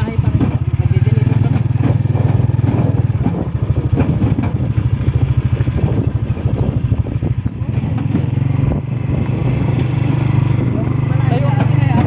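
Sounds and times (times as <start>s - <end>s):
motorcycle engine idling putter: 0.0s - 12.0s.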